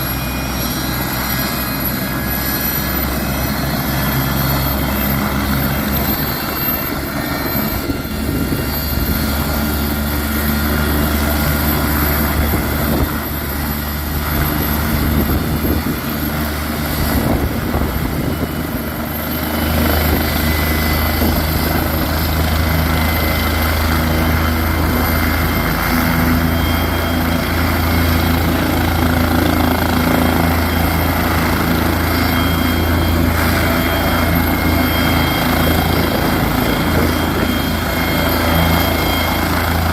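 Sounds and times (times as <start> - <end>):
helicopter turbine and rotor: 0.0 - 39.9.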